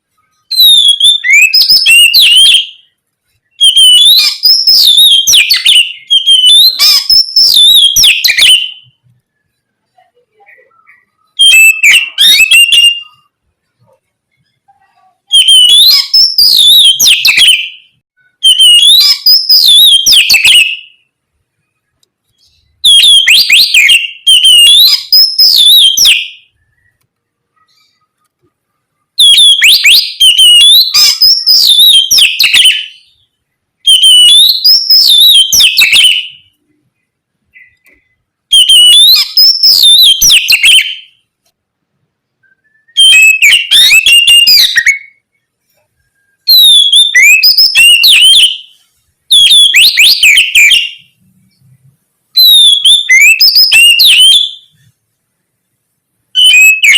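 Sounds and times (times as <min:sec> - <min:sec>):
songbird whistling song: 0:00.1 - 0:13.4, 0:14.3 - 0:28.3, 0:29.2 - 0:41.3, 0:42.4 - 0:51.8, 0:52.4 - 0:54.9, 0:56.4 - 0:56.9.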